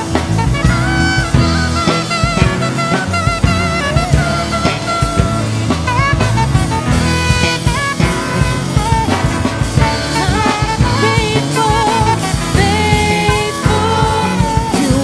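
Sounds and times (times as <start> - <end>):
gliding lead melody: 0.0 - 15.0
worship band playing: 0.0 - 15.0.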